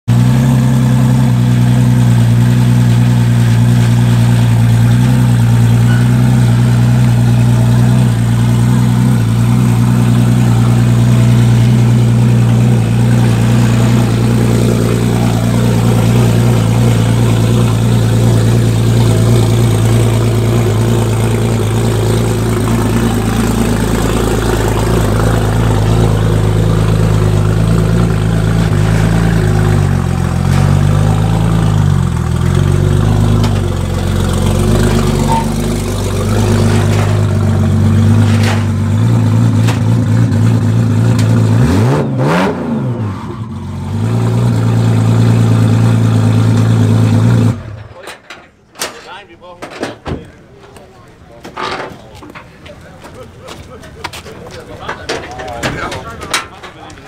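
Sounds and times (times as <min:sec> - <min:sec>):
car engine idling: 0:00.1 - 0:42.4, 0:43.1 - 0:57.0.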